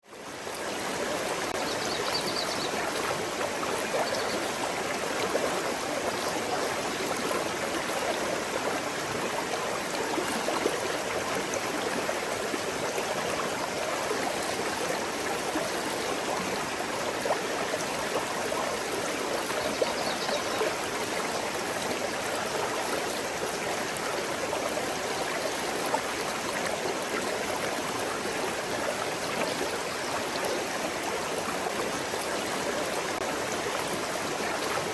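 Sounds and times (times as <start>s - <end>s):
stream babbling over stones: 0.1s - 34.9s.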